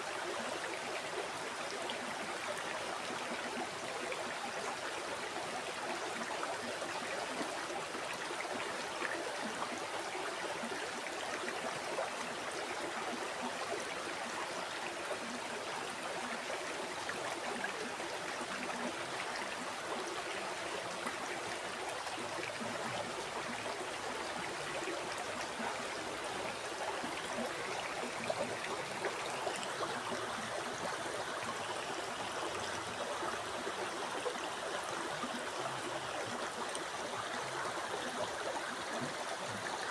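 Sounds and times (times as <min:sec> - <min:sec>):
river water babbling over stones: 0:00.1 - 0:39.9.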